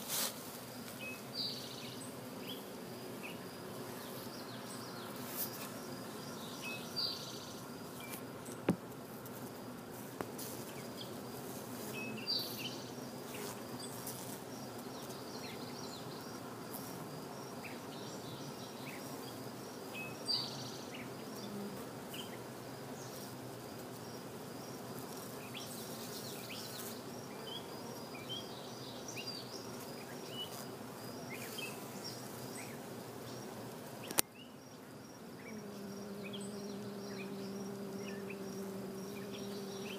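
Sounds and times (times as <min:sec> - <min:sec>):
honey bees humming: 0:00.0 - 0:39.9.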